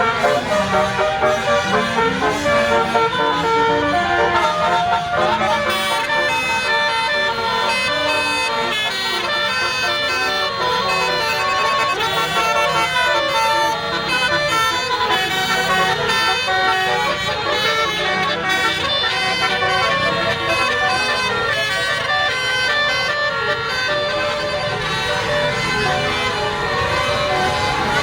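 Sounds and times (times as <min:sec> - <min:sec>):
multi-tone air horn playing a tune: 0:00.0 - 0:28.0.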